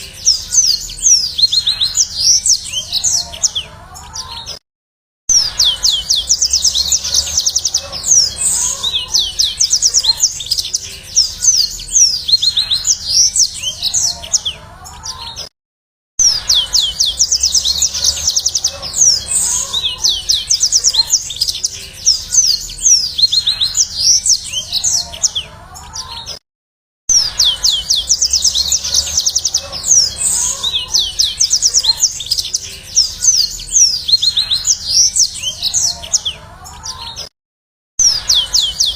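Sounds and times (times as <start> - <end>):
canary singing: 0.0 - 4.6, 5.3 - 15.5, 16.2 - 26.4, 27.1 - 37.3, 38.0 - 38.9.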